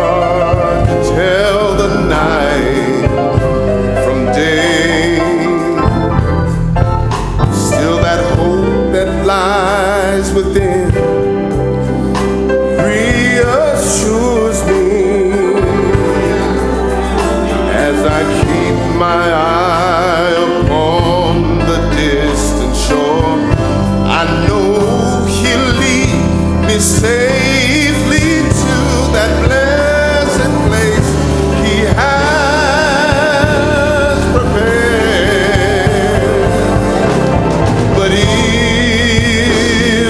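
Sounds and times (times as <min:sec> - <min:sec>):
bass: 0:00.0 - 0:40.0
organ chords: 0:00.0 - 0:40.0
voices singing gospel: 0:00.0 - 0:40.0.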